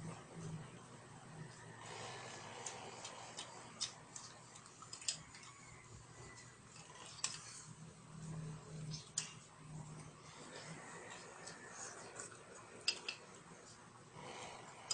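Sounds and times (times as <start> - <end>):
toddler chewing food: 1.4 - 14.9.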